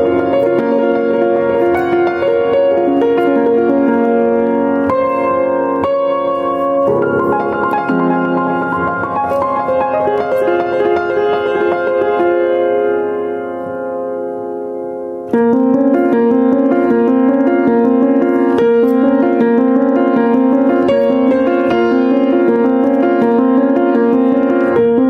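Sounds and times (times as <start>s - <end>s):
upright piano playing chords: 0.0s - 25.0s.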